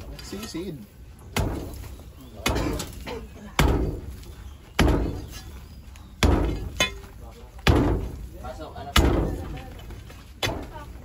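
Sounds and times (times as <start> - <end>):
digging tool striking earth: 0.0 - 10.9.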